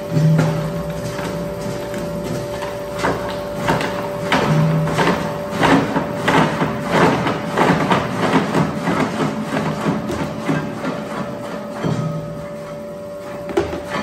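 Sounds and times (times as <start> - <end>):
industrial dicer humming: 0.0 - 14.0.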